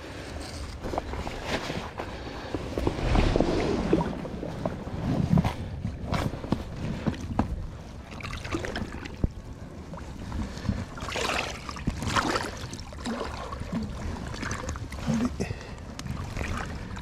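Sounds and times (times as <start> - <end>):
water splashing and lapping: 0.1 - 17.0.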